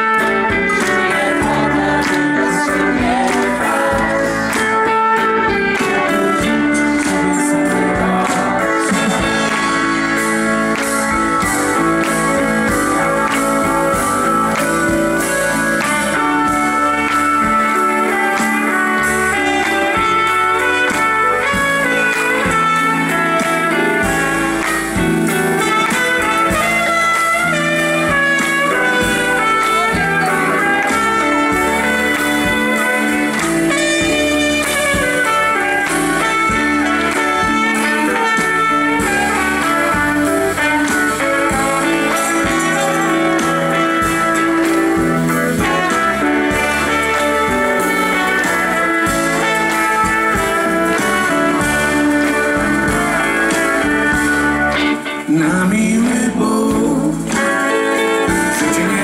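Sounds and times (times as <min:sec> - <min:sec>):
bass guitar: 0:00.0 - 0:59.0
electric guitar: 0:00.0 - 0:59.0
keyboards: 0:00.0 - 0:59.0
trumpet: 0:00.0 - 0:59.0.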